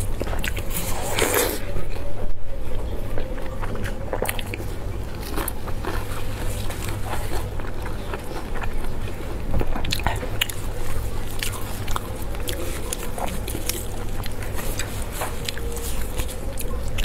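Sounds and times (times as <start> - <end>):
steady low hum: 0.0 - 17.0
wet chewing and biting: 0.0 - 17.0
lettuce leaves crinkling: 3.2 - 17.0.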